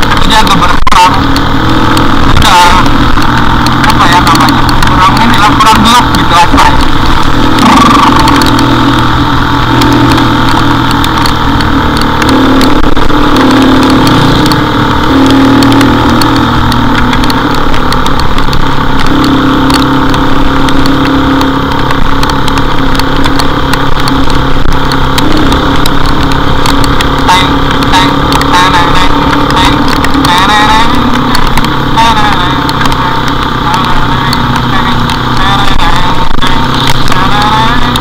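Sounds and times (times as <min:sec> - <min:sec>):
motorcycle engine running: 0:00.0 - 0:38.0
sharp clicks: 0:00.0 - 0:38.0
wind and road noise: 0:00.0 - 0:38.0.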